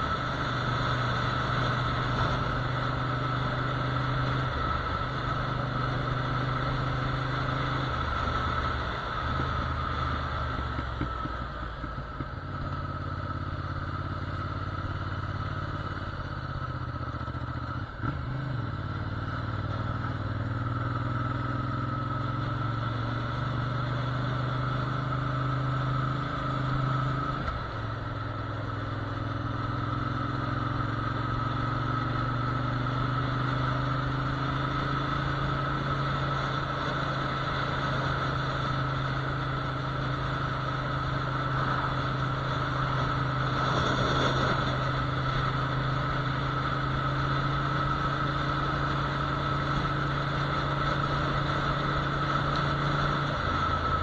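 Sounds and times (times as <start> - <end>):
road and wind noise: 0.0 - 54.0
vehicle engine running: 0.0 - 54.0.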